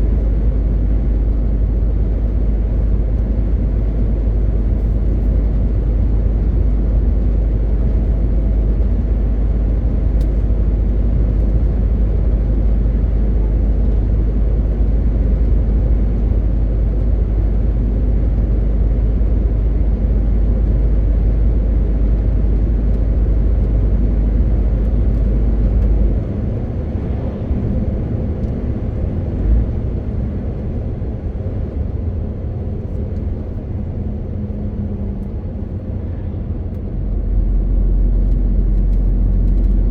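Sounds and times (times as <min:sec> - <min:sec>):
road and tyre noise: 0:00.0 - 0:39.9
truck diesel engine running: 0:00.2 - 0:39.9.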